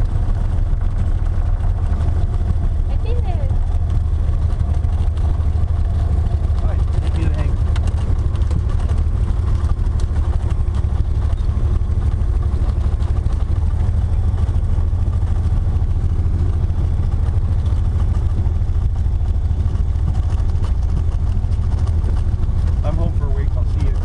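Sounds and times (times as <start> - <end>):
propeller engine running: 0.0 - 24.0.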